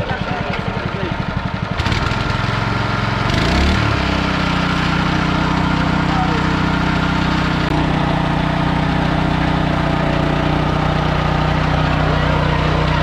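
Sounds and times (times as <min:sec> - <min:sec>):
small engine chugging and revving: 0:00.0 - 0:13.0.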